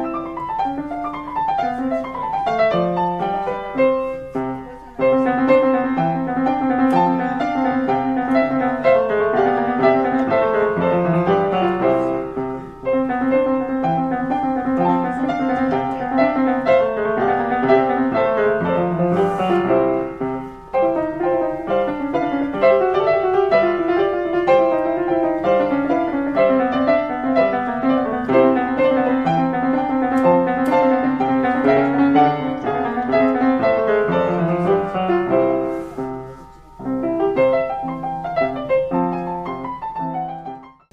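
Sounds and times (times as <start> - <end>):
upright piano playing: 0.0 - 40.9.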